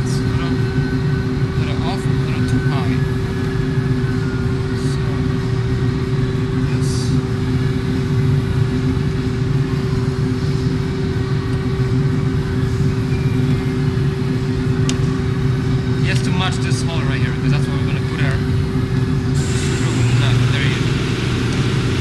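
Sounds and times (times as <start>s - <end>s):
low mechanical humming drone: 0.0s - 22.0s.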